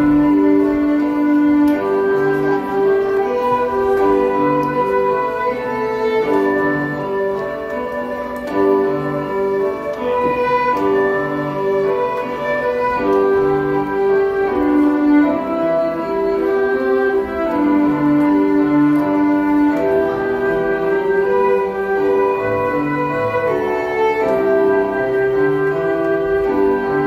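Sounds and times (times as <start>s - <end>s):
lower accompaniment: 0.0s - 27.0s
violins playing slow tune: 0.0s - 27.0s.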